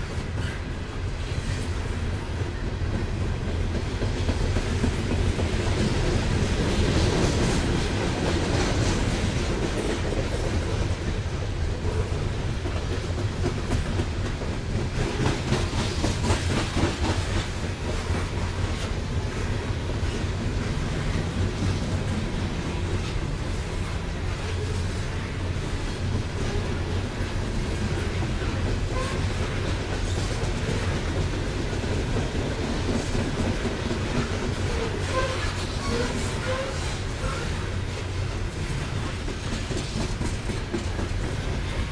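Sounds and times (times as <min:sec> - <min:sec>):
freight train rumble: 0:00.0 - 0:41.9.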